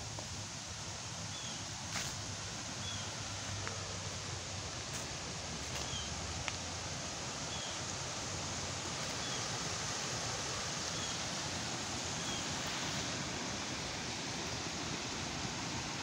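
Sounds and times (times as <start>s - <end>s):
water rushing over concrete: 1.7s - 16.0s.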